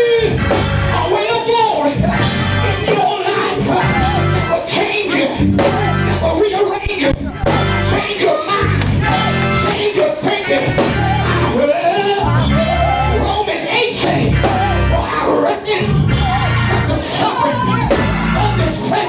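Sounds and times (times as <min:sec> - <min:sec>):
live gospel band music: 0:00.0 - 0:19.0
voices singing: 0:00.0 - 0:19.0.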